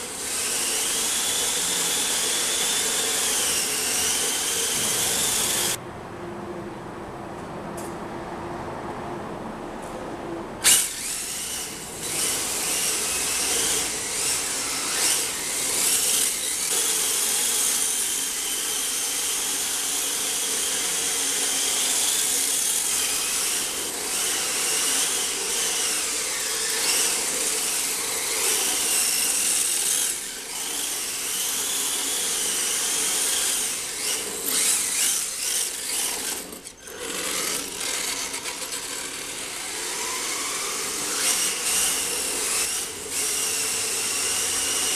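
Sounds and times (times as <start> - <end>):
electric motor whining: 0.0 - 5.8, 10.6 - 44.9.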